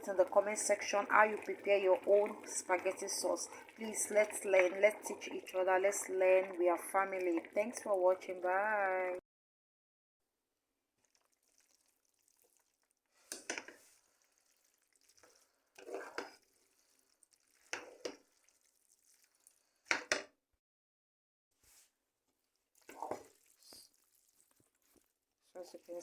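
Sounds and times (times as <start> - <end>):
spaghetti squelching when stirred: 0.0 - 9.2, 11.0 - 20.2, 21.7 - 26.0.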